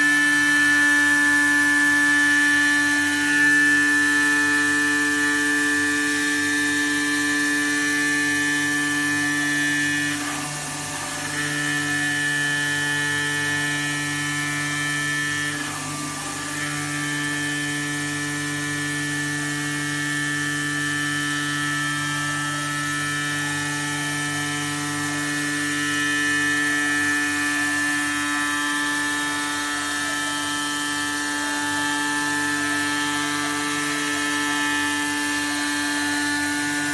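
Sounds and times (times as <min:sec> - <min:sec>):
cutting machine whine: 0:00.0 - 0:36.9.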